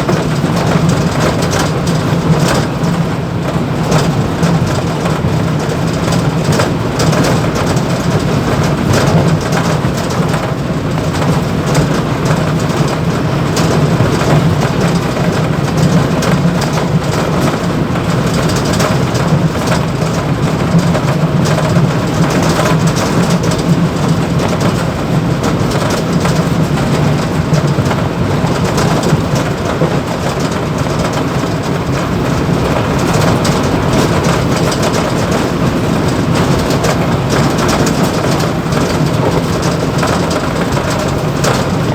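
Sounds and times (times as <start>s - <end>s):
cab rattling: 0.0s - 41.9s
train wheels rumbling on rail: 0.0s - 41.9s.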